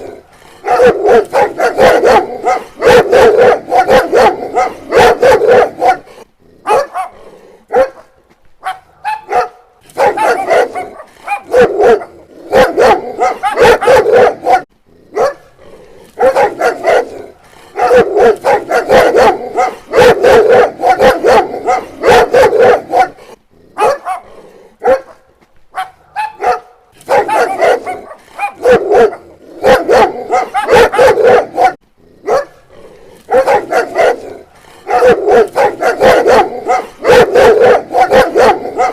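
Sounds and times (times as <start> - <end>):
dog barking: 0.0 - 15.5, 16.2 - 32.6, 33.3 - 38.9.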